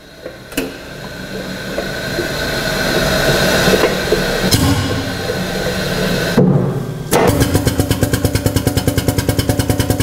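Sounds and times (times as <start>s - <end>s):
machine running with hum: 0.0s - 10.0s.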